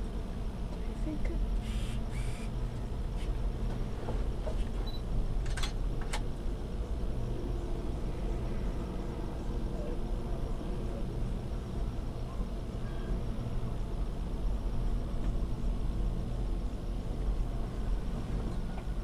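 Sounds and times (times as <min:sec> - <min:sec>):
cable car rumble and hum: 0:00.0 - 0:19.0.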